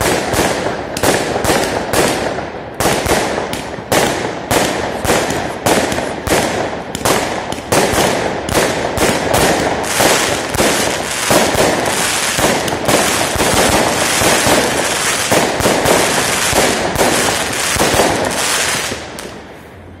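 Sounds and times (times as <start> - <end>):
fireworks bangs and crackle: 0.0 - 19.8.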